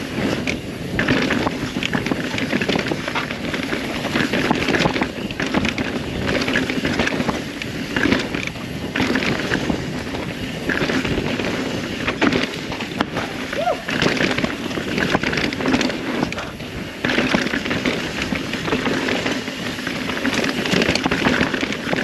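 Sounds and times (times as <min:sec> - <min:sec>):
bike chain and frame rattling: 0:00.0 - 0:22.0
bike tyres rumbling over dirt: 0:00.0 - 0:22.0
wind buffeting microphone: 0:00.0 - 0:22.0.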